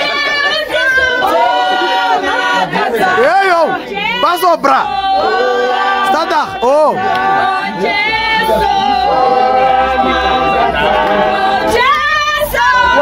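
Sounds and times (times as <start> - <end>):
group singing without instruments: 0.0 - 13.0.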